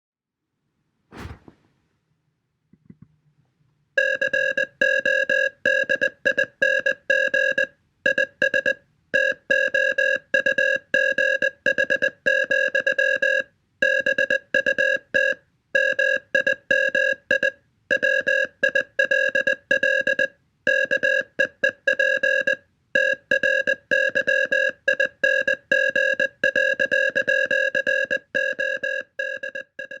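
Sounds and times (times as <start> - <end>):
morse code beeps: 4.0 - 30.0.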